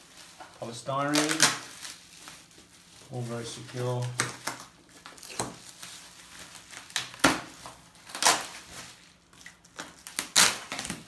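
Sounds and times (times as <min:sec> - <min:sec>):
bubble wrap rustling: 0:00.0 - 0:11.0.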